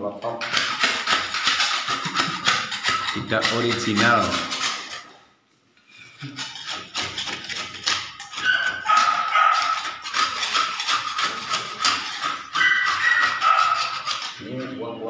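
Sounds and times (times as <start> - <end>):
scraper scratching paint off wall: 0.4 - 5.1, 6.0 - 14.9.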